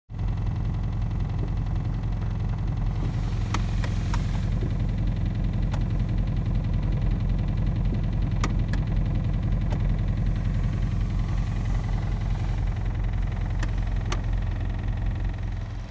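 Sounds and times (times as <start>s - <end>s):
car engine idling: 0.1s - 15.9s
sharp engine clicks: 0.4s - 15.9s.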